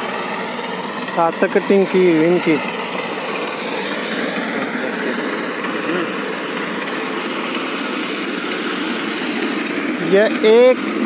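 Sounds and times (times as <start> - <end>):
reaper engine running: 0.0 - 11.0.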